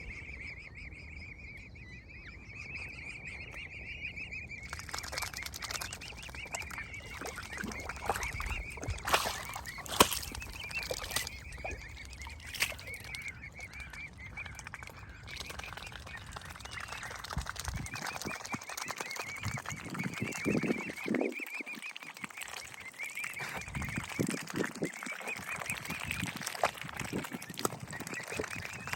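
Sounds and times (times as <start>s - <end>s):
cygnets peeping: 1.6s - 28.9s.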